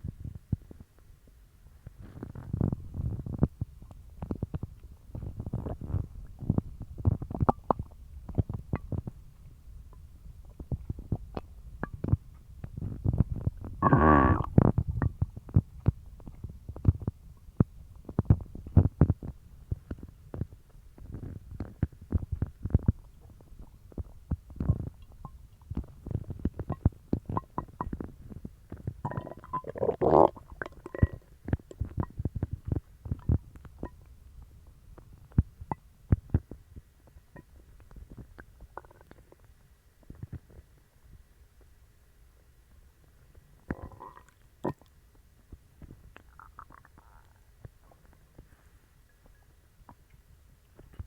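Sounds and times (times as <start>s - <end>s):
stomach gurgling and rumbling: 0.0s - 41.8s, 43.0s - 51.0s.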